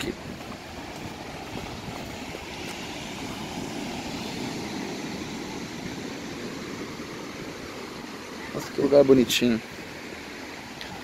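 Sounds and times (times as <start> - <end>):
surf washing onto beach: 0.0 - 11.0.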